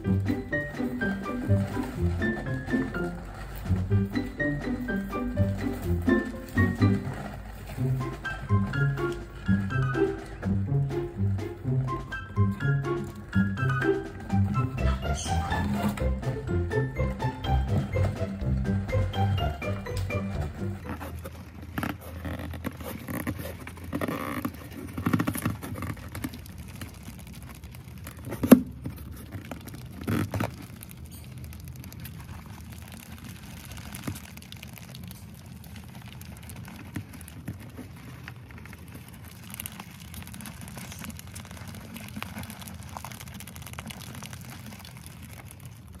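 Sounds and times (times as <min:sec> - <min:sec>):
mice scrabbling on plastic: 0:00.0 - 0:46.0
cardboard and plastic handling: 0:00.1 - 0:10.6, 0:17.6 - 0:46.0.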